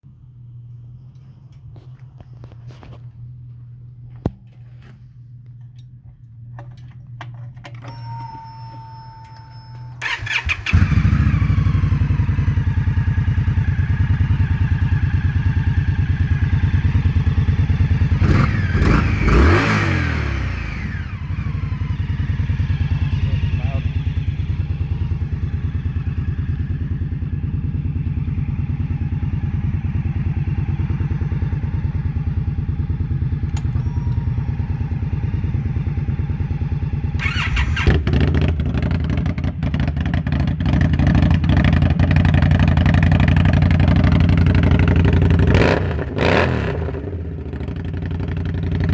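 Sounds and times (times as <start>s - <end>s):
motorcycle engine idling: 9.0s - 48.9s.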